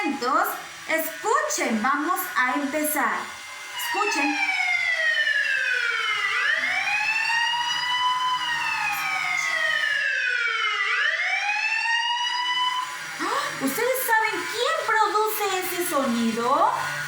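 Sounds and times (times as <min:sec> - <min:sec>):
police siren wailing: 0:02.6 - 0:16.9.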